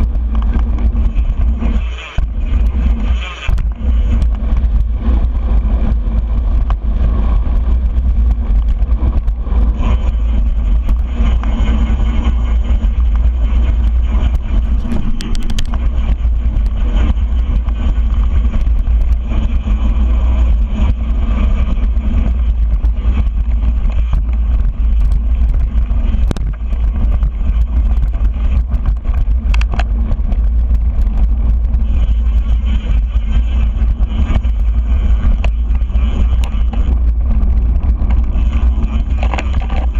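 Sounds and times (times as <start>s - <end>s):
bike clicks and rattles: 0.0s - 39.9s
tyres rolling over dirt trail: 0.0s - 39.9s
wind buffeting microphone: 0.0s - 39.9s.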